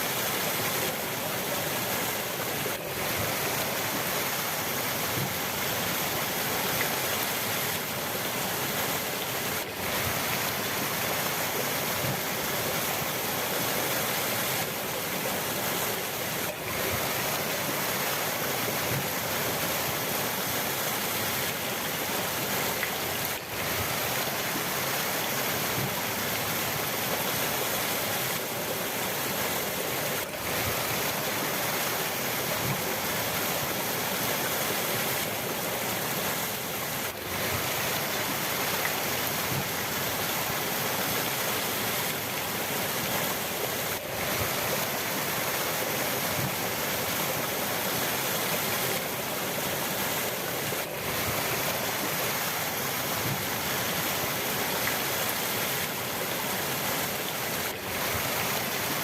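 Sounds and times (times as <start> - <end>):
rushing river water: 0.0 - 59.0.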